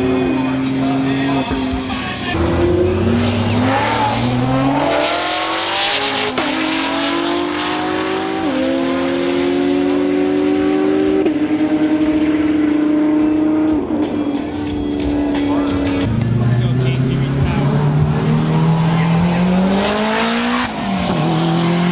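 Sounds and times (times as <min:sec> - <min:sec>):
race car accelerating: 0:00.0 - 0:21.9.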